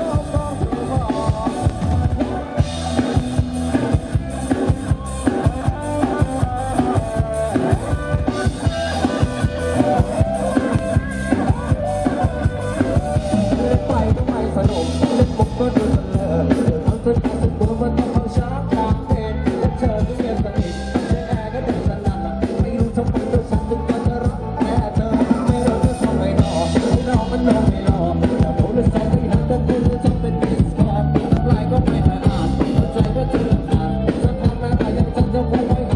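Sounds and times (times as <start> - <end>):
drum kit fast beat: 0.0 - 35.9
electric guitar: 0.0 - 35.9
keyboard: 0.0 - 35.9
person singing: 0.0 - 35.9.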